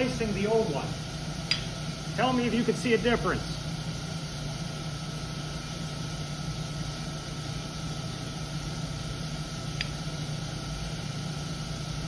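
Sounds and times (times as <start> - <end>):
machinery hum and hiss: 0.0 - 12.0
thin steady whine: 0.0 - 12.0.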